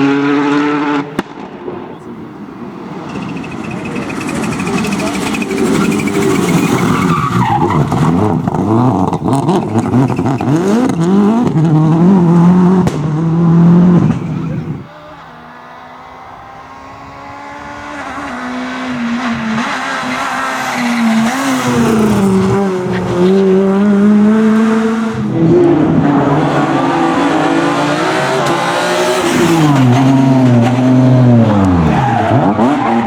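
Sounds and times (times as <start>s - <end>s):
rally car engine revving: 0.0s - 33.0s
gear change: 2.4s - 33.0s.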